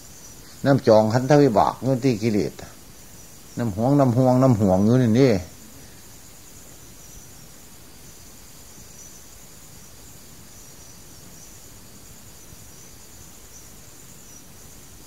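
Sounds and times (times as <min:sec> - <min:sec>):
faint background hiss: 0:00.0 - 0:15.0
insects trilling: 0:00.0 - 0:15.0.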